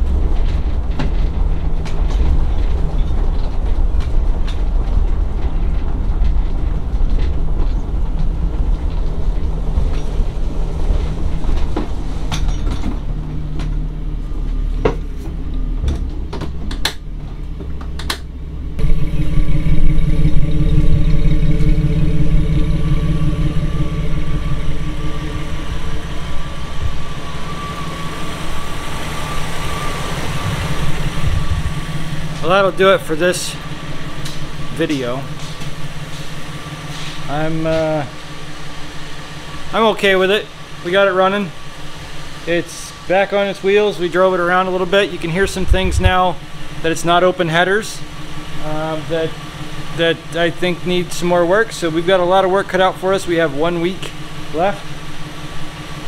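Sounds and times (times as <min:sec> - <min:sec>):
engine and road rumble: 0:00.0 - 0:56.0
engine idling: 0:00.0 - 0:56.0.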